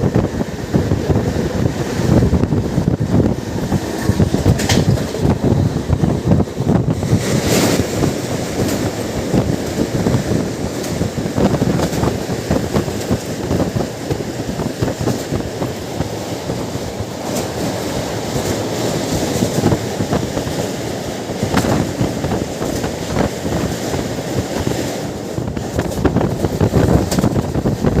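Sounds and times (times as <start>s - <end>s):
rail clicks: 0.0s - 28.0s
train wheels rumbling on rails: 0.0s - 28.0s
wind buffeting microphone: 0.0s - 28.0s.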